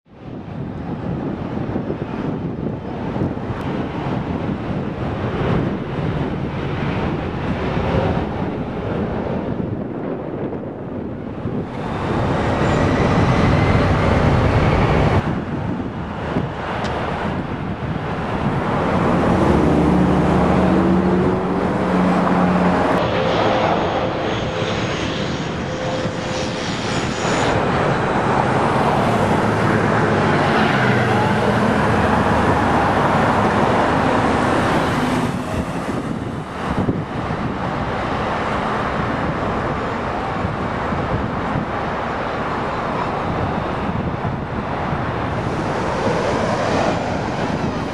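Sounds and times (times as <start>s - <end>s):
wind on microphone: 0.0s - 47.9s
jet airliner engines passing: 0.1s - 47.9s.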